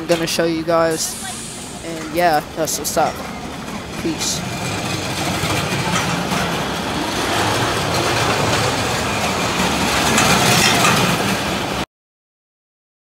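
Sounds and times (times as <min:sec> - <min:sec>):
roller coaster rumbling on track: 0:00.0 - 0:11.8.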